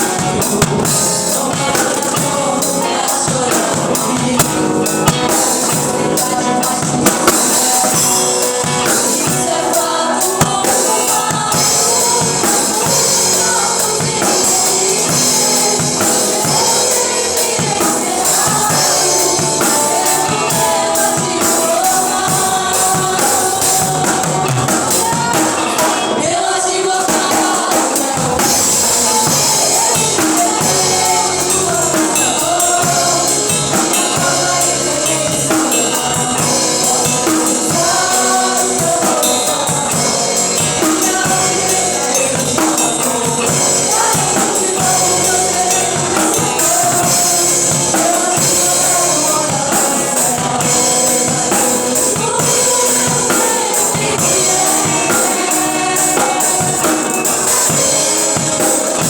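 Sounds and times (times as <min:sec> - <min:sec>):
singing over a band: 0:00.0 - 0:59.0.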